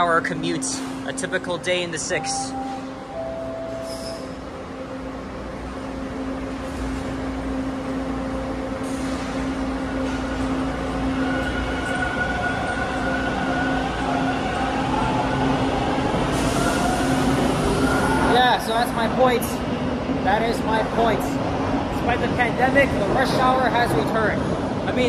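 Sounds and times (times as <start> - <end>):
subway train rumbling with whine: 0.0 - 25.0.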